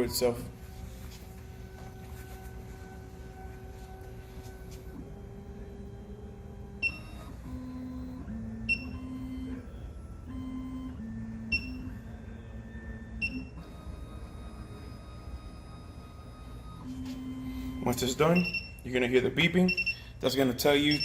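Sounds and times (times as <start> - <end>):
machine motors humming: 0.0 - 18.5.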